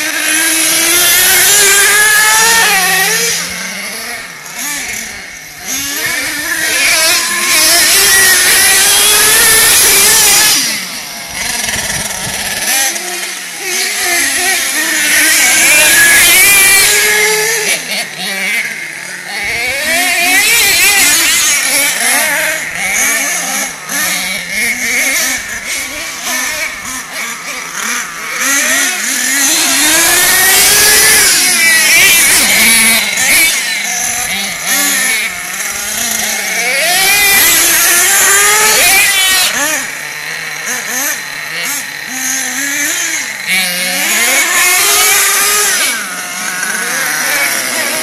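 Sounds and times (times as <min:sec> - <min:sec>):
rc truck engines revving: 0:00.0 - 0:48.0.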